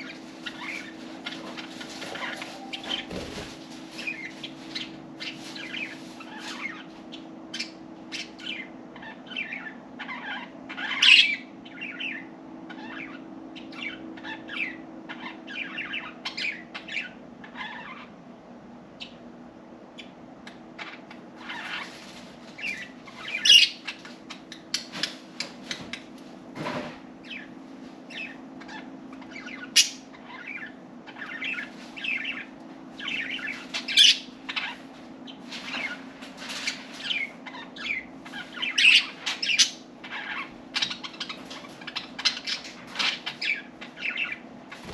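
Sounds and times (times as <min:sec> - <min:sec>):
budgerigars chirping: 0:00.0 - 0:18.1, 0:19.9 - 0:25.8, 0:27.2 - 0:27.5, 0:28.1 - 0:44.9.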